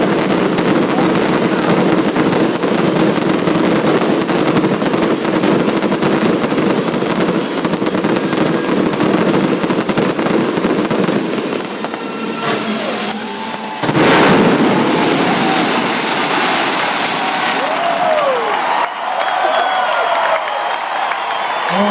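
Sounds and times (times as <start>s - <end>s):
fireworks bangs and crackle: 0.0s - 21.9s.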